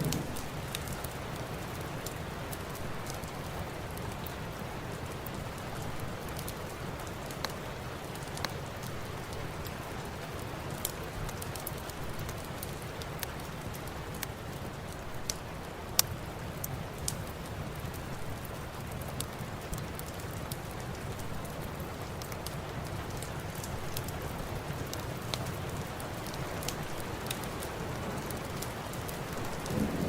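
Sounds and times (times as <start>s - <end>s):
steady rain: 0.0s - 30.0s
wood fire crackling: 0.0s - 30.0s.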